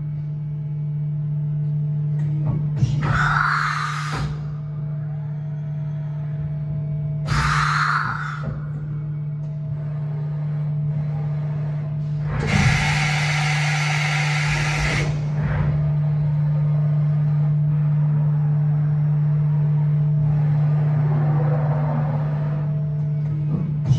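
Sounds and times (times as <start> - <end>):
machining centre humming: 0.0 - 23.9.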